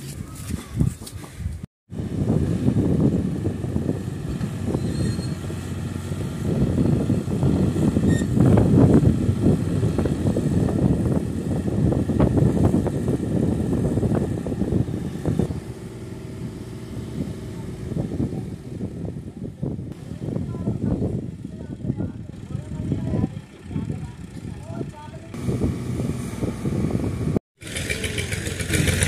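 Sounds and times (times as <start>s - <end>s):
tractor diesel engine running: 2.0s - 29.0s.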